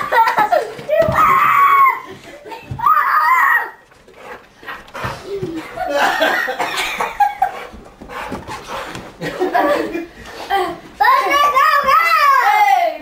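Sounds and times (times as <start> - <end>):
children laughing and chattering: 0.0 - 13.0.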